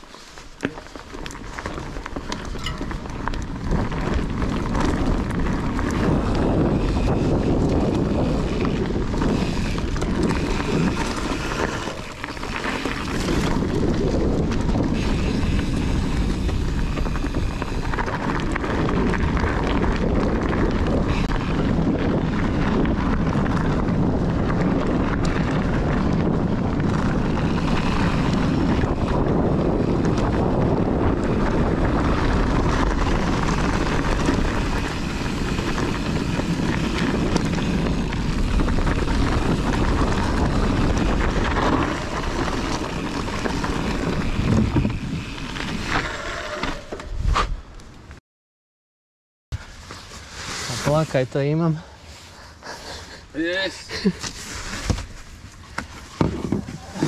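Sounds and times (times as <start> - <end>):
mountain bike rolling on trail: 0.0 - 48.2, 49.6 - 57.0
wind over microphone: 0.0 - 48.2, 49.6 - 57.0.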